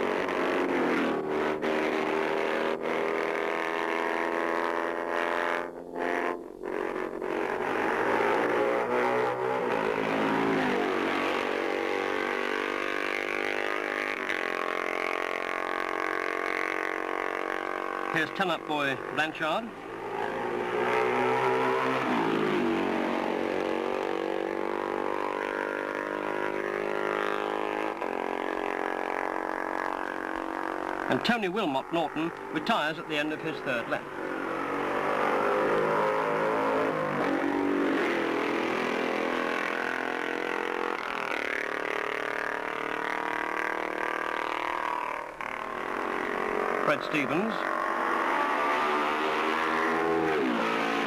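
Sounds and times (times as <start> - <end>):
racing motorcycle passing by: 0.0 - 51.0.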